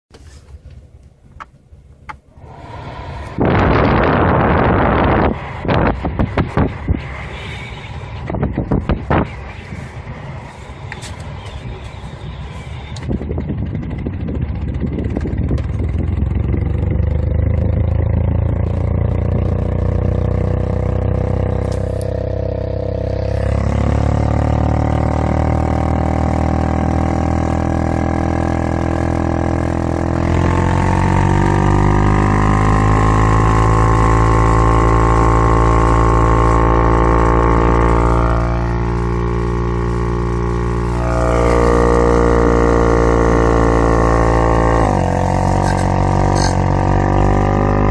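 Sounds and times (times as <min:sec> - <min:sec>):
car air conditioner droning howl: 0:00.1 - 0:16.8, 0:18.6 - 0:47.3.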